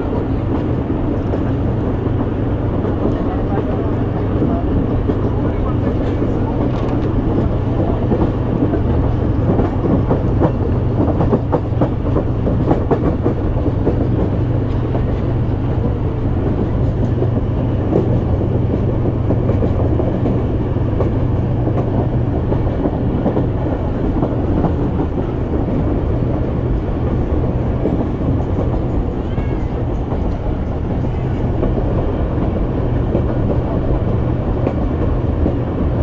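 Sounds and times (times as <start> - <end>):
train rumble with low hum: 0.0 - 36.0.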